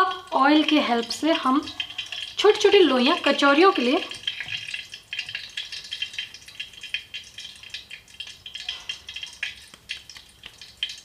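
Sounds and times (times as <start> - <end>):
dough squelching and clicking: 0.0 - 11.0.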